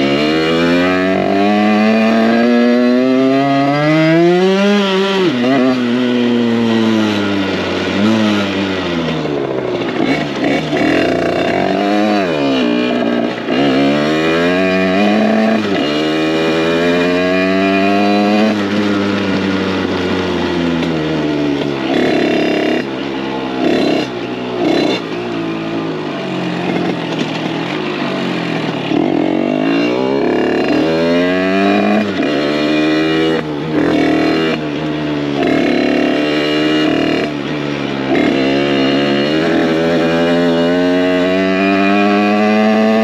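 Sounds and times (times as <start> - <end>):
two-stroke engine revving: 0.0 - 43.0.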